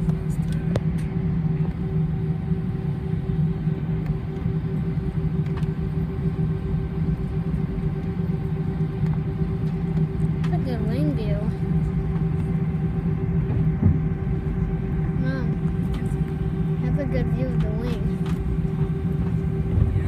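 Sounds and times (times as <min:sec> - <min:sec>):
aircraft engines droning: 0:00.0 - 0:20.0
constant cabin hum: 0:00.0 - 0:20.0.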